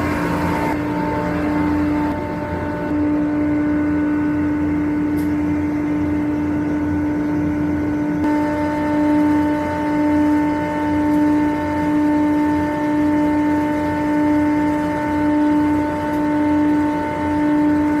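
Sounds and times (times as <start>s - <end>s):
chiller machinery humming: 0.0s - 18.0s.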